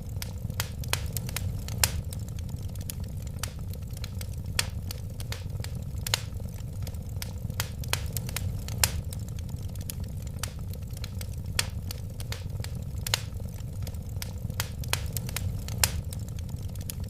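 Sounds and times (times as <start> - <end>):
low rumble of flames: 0.0 - 17.0
wood fire crackles and pops: 0.0 - 17.0.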